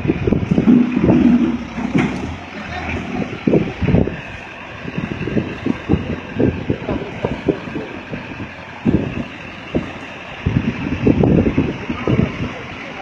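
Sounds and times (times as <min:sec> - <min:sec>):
diesel engine running: 0:00.0 - 0:13.0
wind buffeting microphone: 0:00.0 - 0:13.0.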